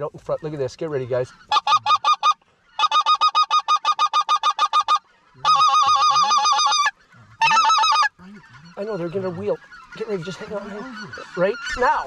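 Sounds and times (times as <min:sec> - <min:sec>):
goose calling: 0:00.1 - 0:12.0.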